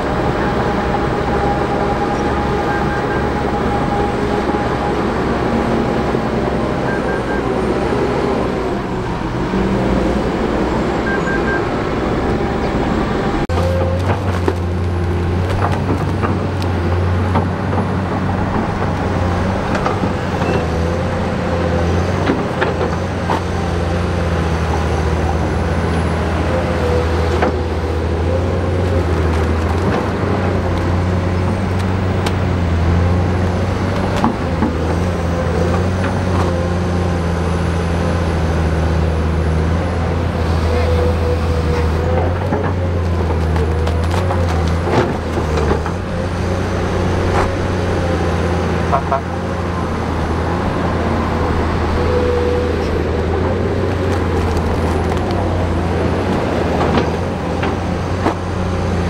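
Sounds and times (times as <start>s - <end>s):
bulldozer diesel engines running: 0.0s - 59.0s.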